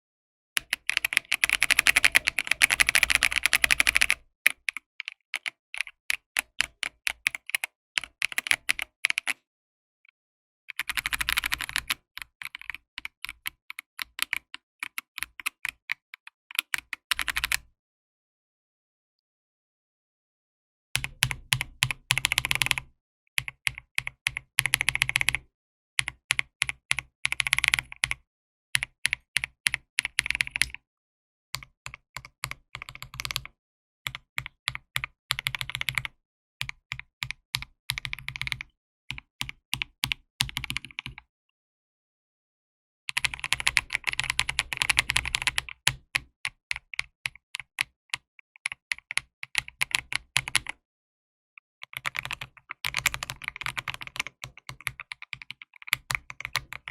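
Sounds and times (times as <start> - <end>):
mechanical keyboard typing: 0.6 - 9.4, 10.7 - 17.6, 21.0 - 25.4, 26.0 - 28.2, 28.8 - 30.8, 31.6 - 33.5, 34.1 - 41.3, 43.1 - 50.8, 51.8 - 56.9.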